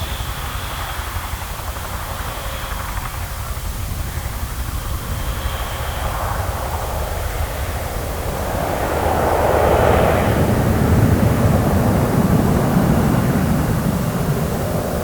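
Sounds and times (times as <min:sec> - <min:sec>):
airplane engine rumble: 0:00.0 - 0:15.0.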